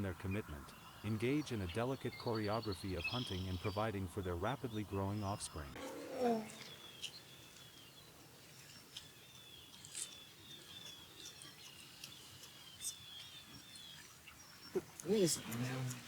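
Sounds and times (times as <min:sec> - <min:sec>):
ospreys calling: 0:00.0 - 0:16.0.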